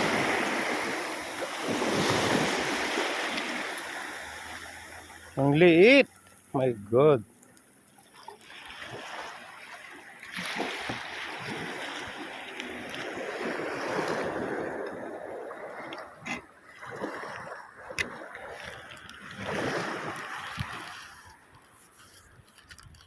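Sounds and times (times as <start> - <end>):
seawater sloshing and splashing: 0.0 - 23.0.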